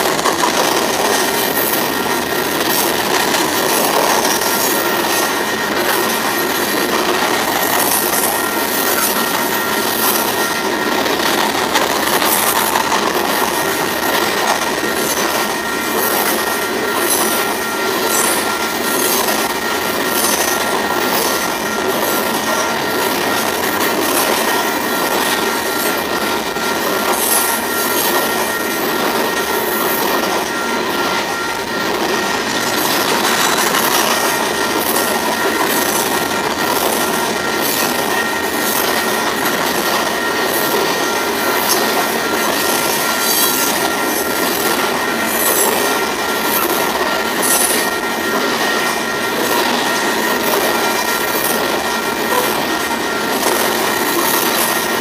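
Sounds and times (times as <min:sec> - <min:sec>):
freight train rolling past: 0:00.0 - 0:55.0
high wheel squeal: 0:00.0 - 0:55.0.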